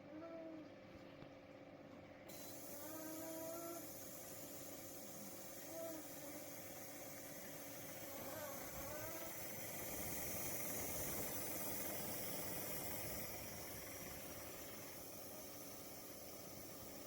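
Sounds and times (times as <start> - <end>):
faint hum: 0.0 - 17.0
air cooler fan hissing: 2.2 - 17.0.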